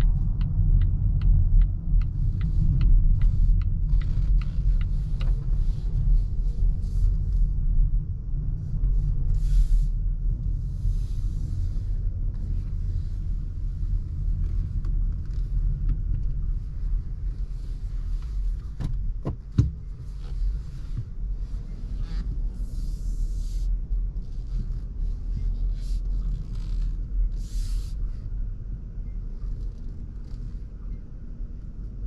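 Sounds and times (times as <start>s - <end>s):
tyre and road rumble in car cabin: 0.0s - 32.0s.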